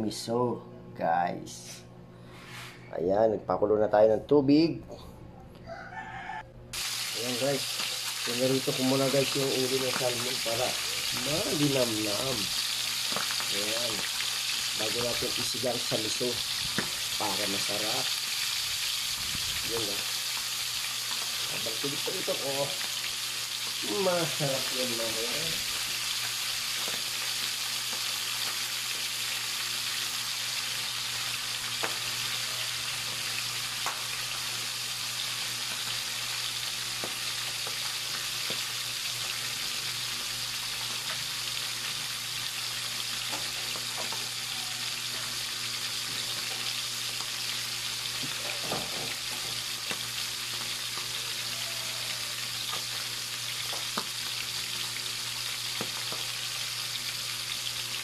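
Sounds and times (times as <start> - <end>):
fish sizzling in hot oil: 6.7 - 58.0
oil popping and crackling: 6.8 - 58.0.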